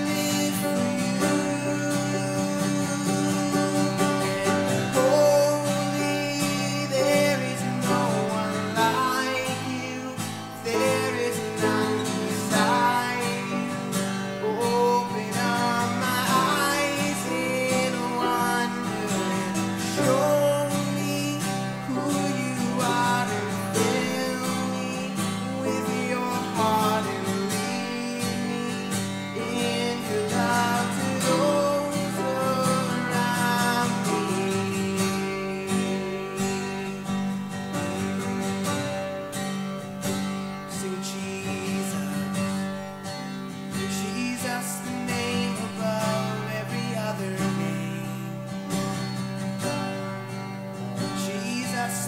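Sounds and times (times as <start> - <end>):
man singing: 0.0 - 39.0, 40.1 - 50.1, 50.9 - 52.0
strummed acoustic guitar: 0.0 - 52.0.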